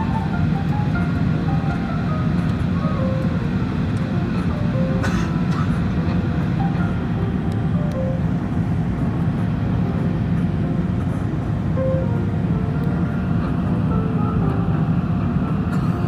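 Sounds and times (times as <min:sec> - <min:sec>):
airplane landing rumble: 0:00.0 - 0:16.0.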